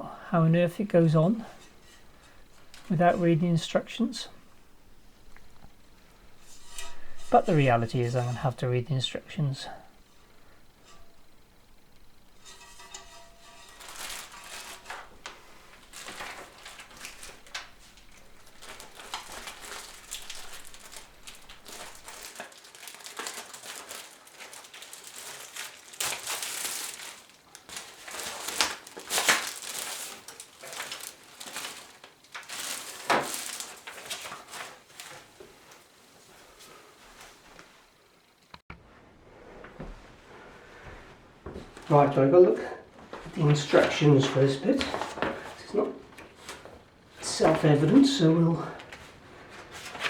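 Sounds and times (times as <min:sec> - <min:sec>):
packaging rustling and crinkling: 0:01.0 - 0:08.6, 0:09.6 - 0:37.6, 0:43.2 - 0:50.0.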